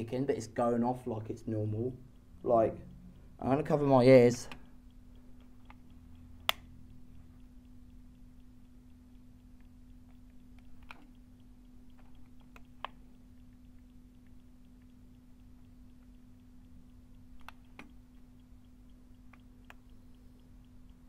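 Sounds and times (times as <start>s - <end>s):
smoke alarm ticking faintly: 0.0s - 21.0s
steady low hum: 0.0s - 21.0s.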